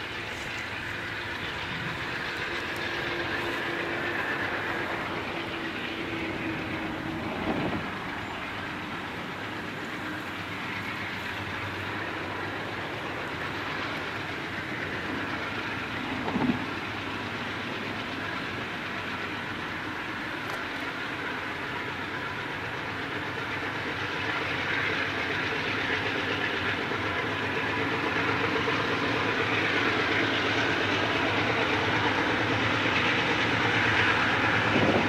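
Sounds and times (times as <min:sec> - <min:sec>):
diesel locomotives rumbling: 0:00.0 - 0:35.0.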